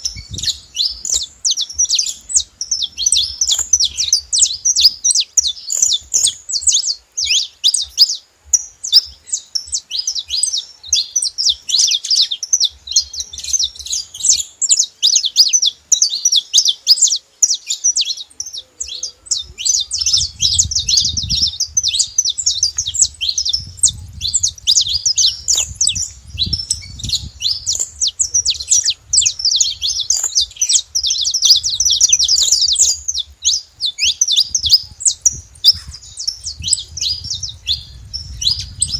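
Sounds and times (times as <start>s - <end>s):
finch singing high chirps: 0.0s - 38.9s.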